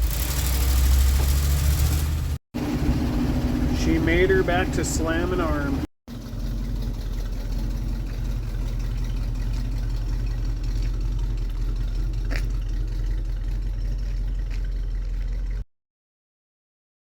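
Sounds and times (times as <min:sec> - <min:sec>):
motorhome engine running: 0:00.0 - 0:15.6.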